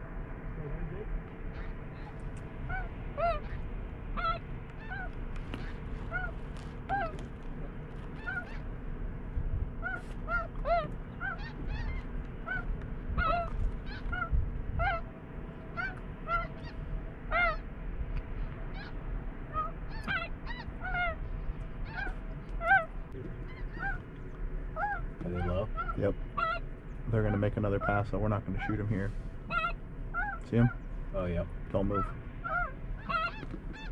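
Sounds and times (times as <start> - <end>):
geese honking: 1.4 - 7.3, 8.0 - 8.8, 9.8 - 17.8, 18.7 - 24.1, 24.7 - 33.9.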